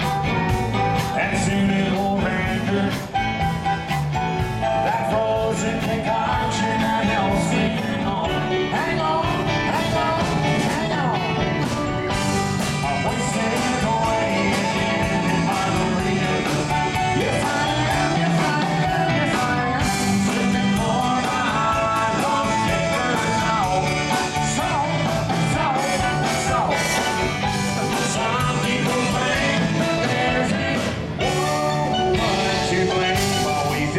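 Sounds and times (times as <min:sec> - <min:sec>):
drum kit beat: 0:00.0 - 0:33.9
electric guitars: 0:00.0 - 0:33.9
live rock band: 0:00.0 - 0:33.9.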